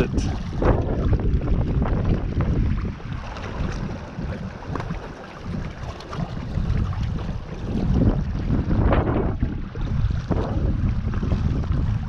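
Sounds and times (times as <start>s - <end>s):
waves washing against rocks: 0.0s - 12.0s
wind buffeting microphone: 0.0s - 12.0s.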